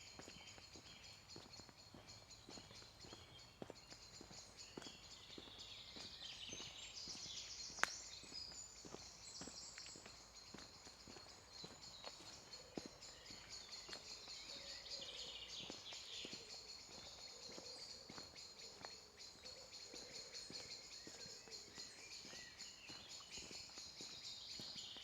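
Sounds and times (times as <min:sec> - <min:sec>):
birds chirping chorus: 0:00.0 - 0:25.0
faint footsteps on path: 0:00.0 - 0:25.0.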